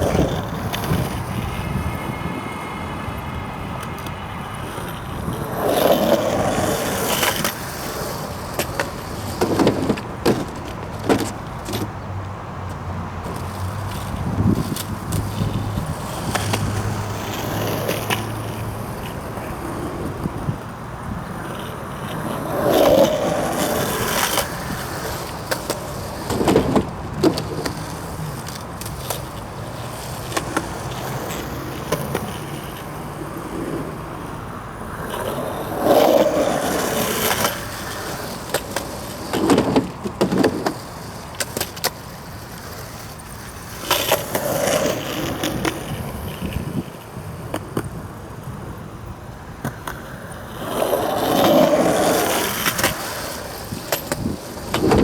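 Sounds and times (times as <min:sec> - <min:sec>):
skateboard clacks: 0:00.0 - 0:55.0
skateboard wheels rolling on concrete: 0:00.0 - 0:55.0.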